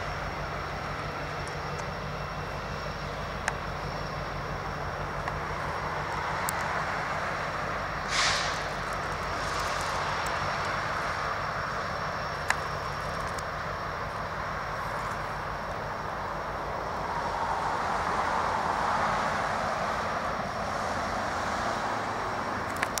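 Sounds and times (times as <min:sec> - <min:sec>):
train wheels rushing on rail: 0:00.0 - 0:23.0.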